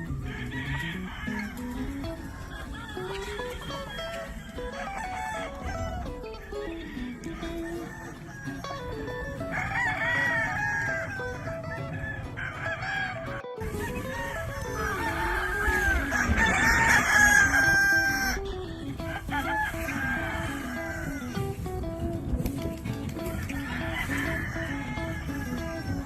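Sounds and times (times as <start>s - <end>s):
background music: 0.0s - 26.0s
chickens clucking: 0.0s - 26.0s
roosters crowing: 0.0s - 26.0s.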